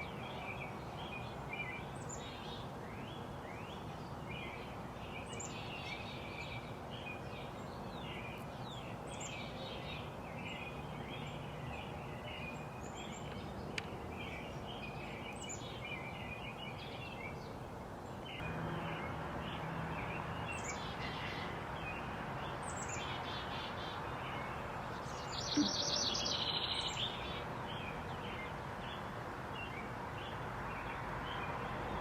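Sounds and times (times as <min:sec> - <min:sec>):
outdoor background hiss: 0:00.0 - 0:32.0
small birds chirping: 0:00.0 - 0:32.0.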